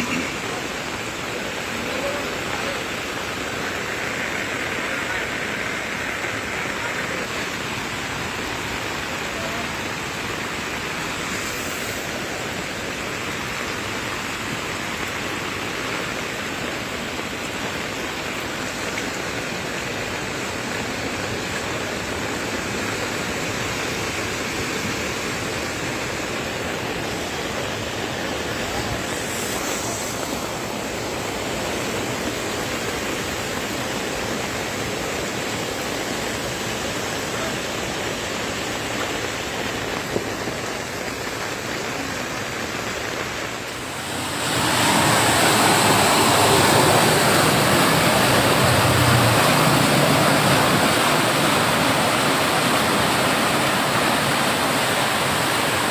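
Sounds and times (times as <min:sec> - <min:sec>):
water rushing: 0:00.0 - 0:55.9.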